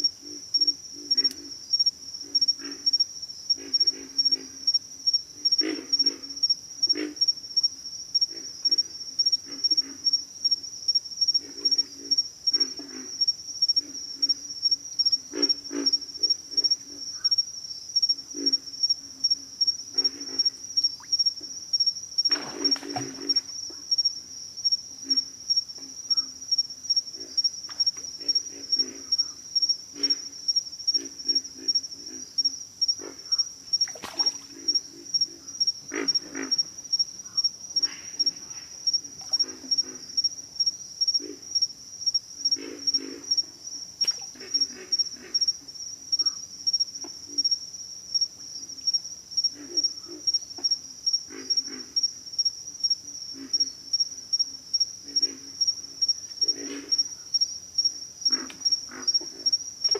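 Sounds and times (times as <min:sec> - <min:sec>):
frogs grunting: 0:00.0 - 0:10.3, 0:11.2 - 0:17.4, 0:18.0 - 0:24.2, 0:24.9 - 0:48.3, 0:48.9 - 0:52.5, 0:53.1 - 0:59.9
high pulsing insect chorus: 0:00.0 - 0:59.9.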